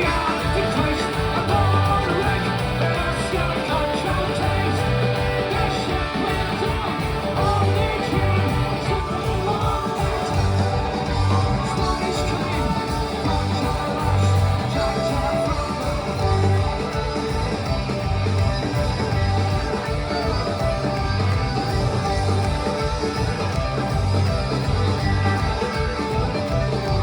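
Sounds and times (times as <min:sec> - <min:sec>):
punk band playing live: 0:00.0 - 0:27.0.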